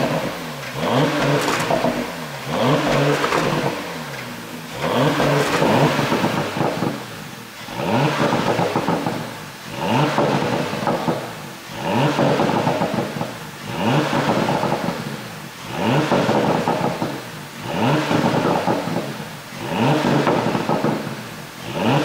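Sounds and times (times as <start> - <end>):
car engine revving: 0.0 - 22.0
exhaust crackling and popping: 0.0 - 22.0.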